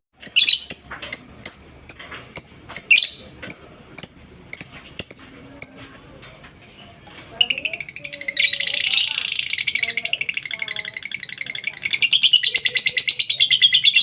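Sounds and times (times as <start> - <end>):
lovebird chirping: 0.2 - 5.8, 7.4 - 14.0.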